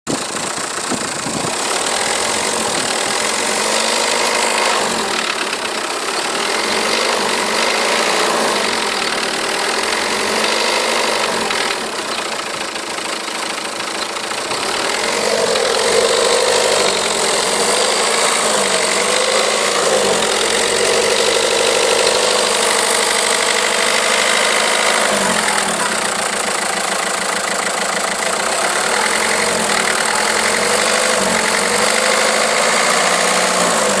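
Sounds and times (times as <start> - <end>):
diesel engine running: 0.1 - 34.0.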